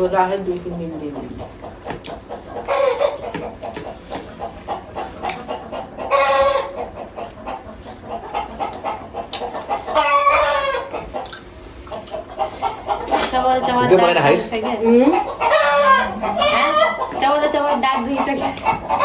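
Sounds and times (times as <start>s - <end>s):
chickens calling: 0.1s - 19.0s.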